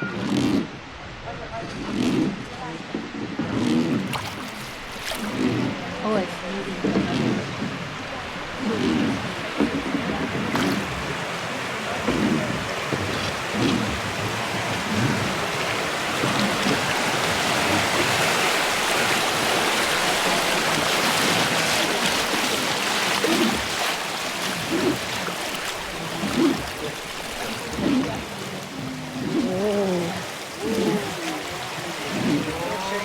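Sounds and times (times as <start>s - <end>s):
river rapids rushing: 0.0s - 33.0s.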